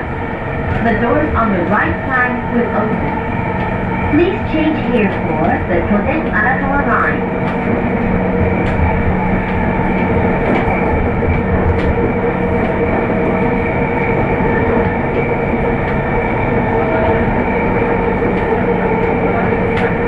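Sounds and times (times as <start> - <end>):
steady electric hum: 0.0 - 20.0
train wheels rumbling on rail: 0.0 - 20.0.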